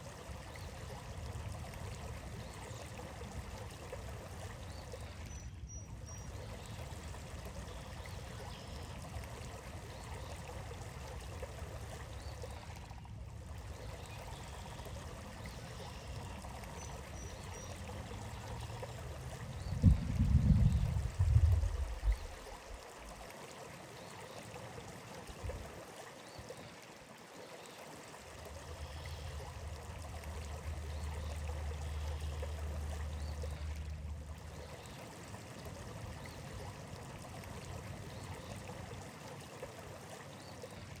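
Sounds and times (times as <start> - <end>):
stream water trickling: 0.0 - 41.0.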